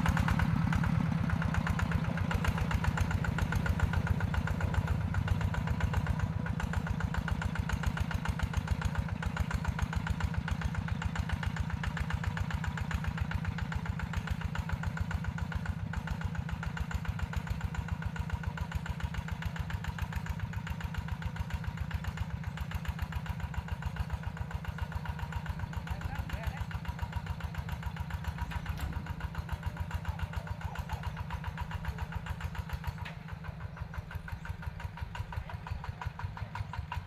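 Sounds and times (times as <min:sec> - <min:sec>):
walking tractor diesel engine: 0:00.0 - 0:37.0.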